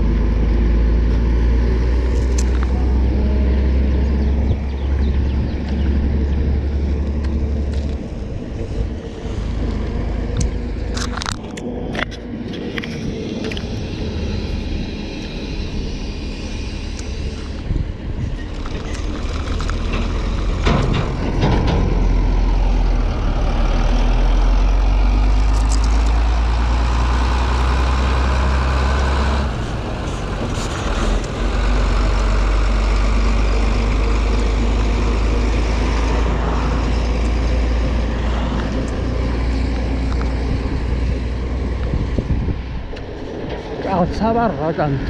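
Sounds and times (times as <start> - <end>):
wind buffeting microphone: 1.2 - 45.0.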